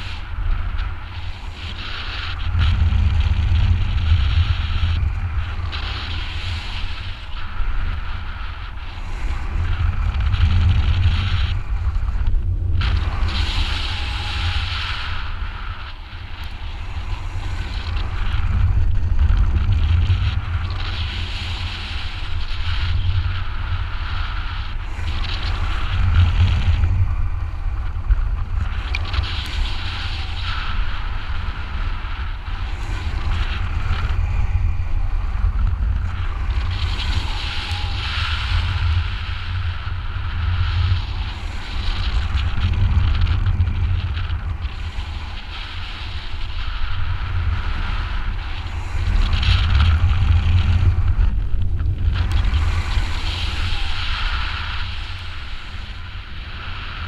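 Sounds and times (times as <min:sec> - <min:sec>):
wind buffeting a microphone: 0:00.0 - 0:57.0.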